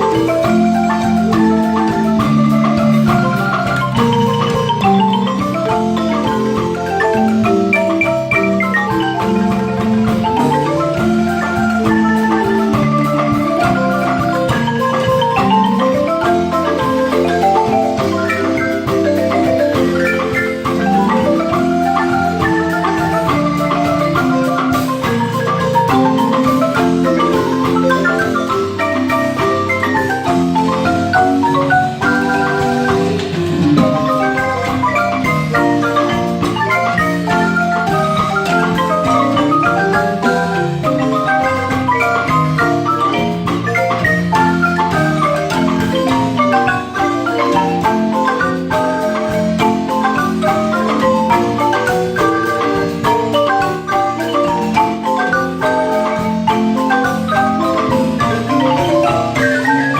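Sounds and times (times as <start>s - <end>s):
marimba ensemble playing: 0.0s - 59.9s.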